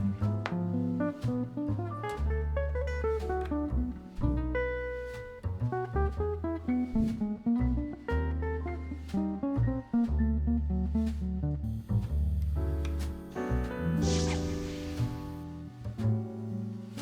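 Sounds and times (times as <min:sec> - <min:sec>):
bass line: 0:00.0 - 0:17.0
plucked guitar: 0:00.0 - 0:17.0.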